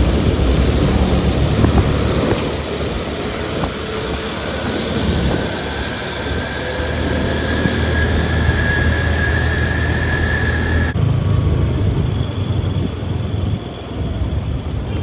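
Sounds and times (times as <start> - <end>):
high engine whine: 0.0 - 15.0
vehicle engine drone: 0.0 - 15.0.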